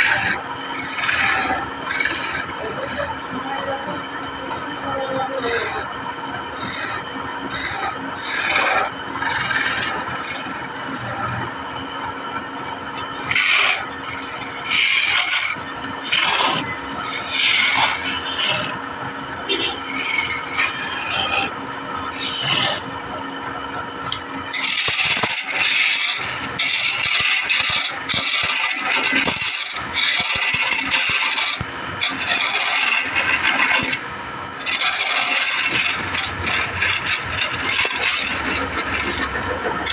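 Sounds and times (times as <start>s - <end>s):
wood rasping strokes: 0.0s - 3.1s, 6.5s - 11.4s, 13.2s - 18.8s, 19.7s - 22.9s, 24.0s - 39.9s.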